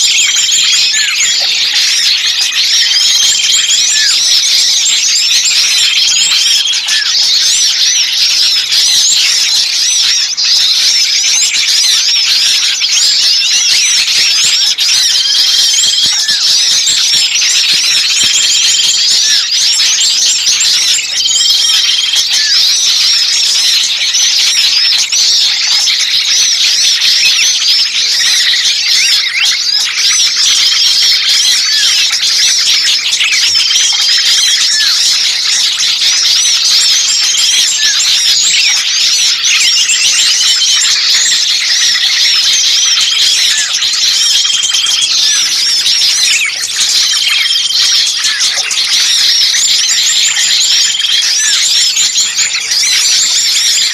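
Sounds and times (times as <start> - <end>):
level whistled bird note: 0.0 - 51.7
songbirds chirping and twittering: 0.0 - 53.9.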